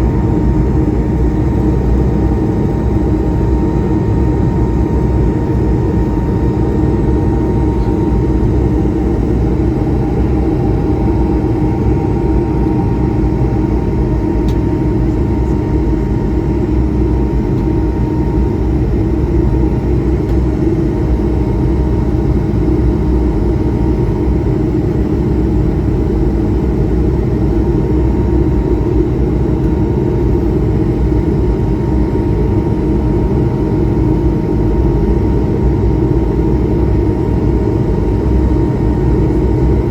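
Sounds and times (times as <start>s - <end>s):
faint steady whine: 0.0s - 39.9s
jet engine cabin rumble: 0.0s - 39.9s.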